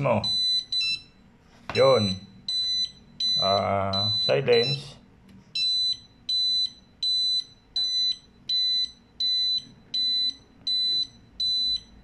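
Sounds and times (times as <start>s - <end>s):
alarm panel buzzer beeping: 0.0s - 1.2s, 1.8s - 5.0s, 5.6s - 12.0s.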